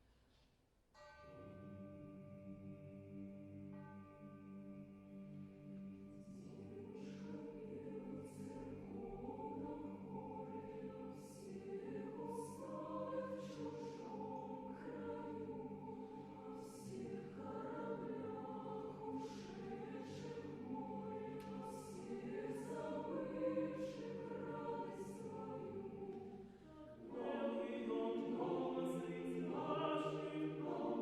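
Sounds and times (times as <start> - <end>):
choir singing: 5.8 - 31.0.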